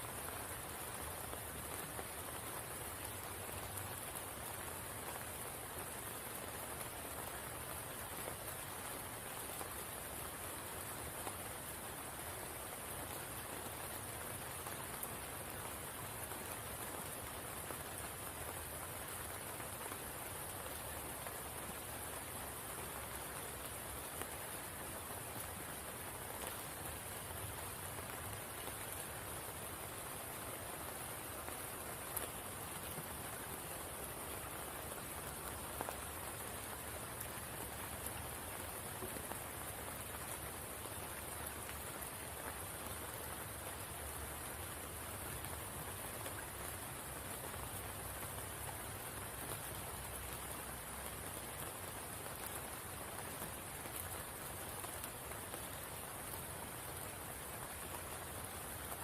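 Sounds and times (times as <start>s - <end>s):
rain falling on a pool: 0.0s - 59.0s.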